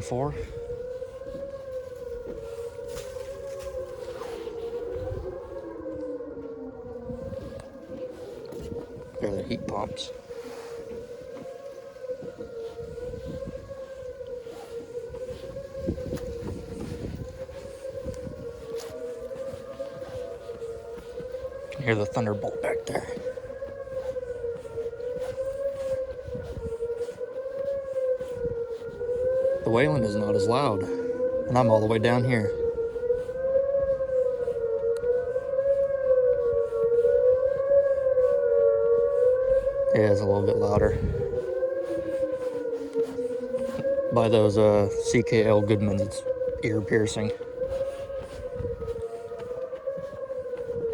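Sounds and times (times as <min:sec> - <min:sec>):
warning sirens steady tone: 0:00.0 - 0:50.9.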